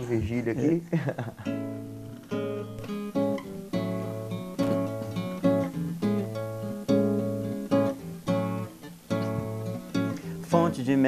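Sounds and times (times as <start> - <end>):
acoustic guitar strumming chords: 1.2 - 11.0.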